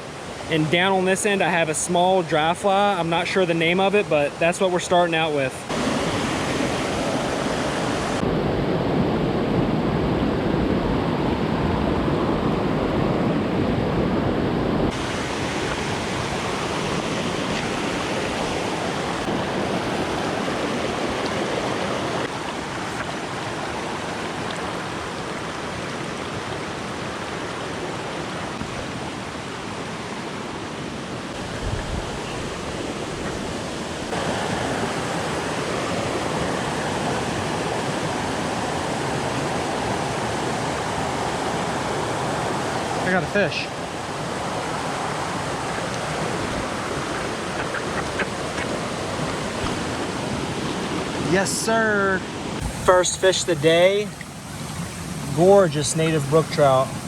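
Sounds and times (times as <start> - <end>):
mountain stream flowing: 0.0 - 57.0.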